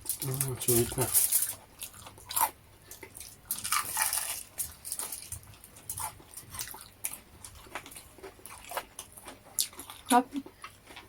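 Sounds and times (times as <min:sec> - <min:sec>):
crunchy chewing of fried food: 0:00.0 - 0:11.0.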